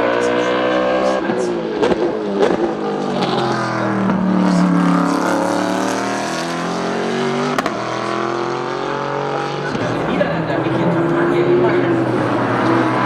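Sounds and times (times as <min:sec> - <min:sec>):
race cars passing at high revs: 0:00.0 - 0:13.0.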